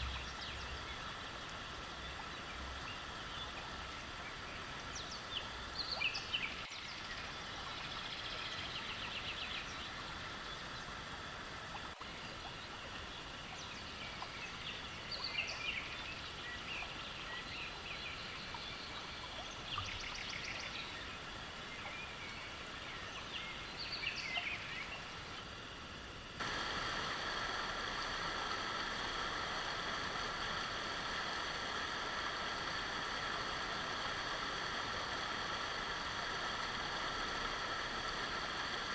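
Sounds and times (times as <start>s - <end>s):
river water flowing: 0.0s - 38.9s
water rushing: 0.0s - 38.9s.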